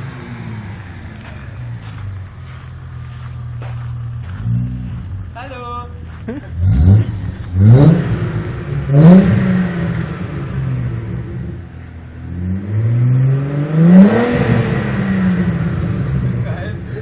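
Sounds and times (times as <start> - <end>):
car engine revving: 0.0 - 5.4, 6.0 - 17.0.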